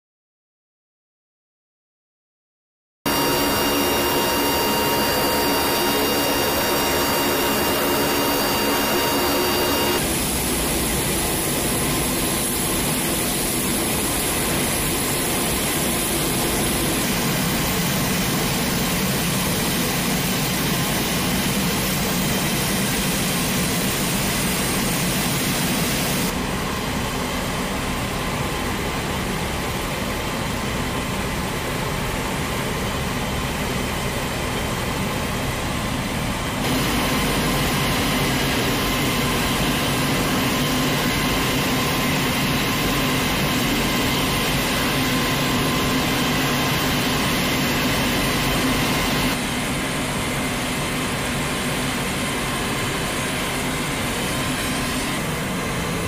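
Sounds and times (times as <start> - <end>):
airfield engine noise: 3.1 - 56.0.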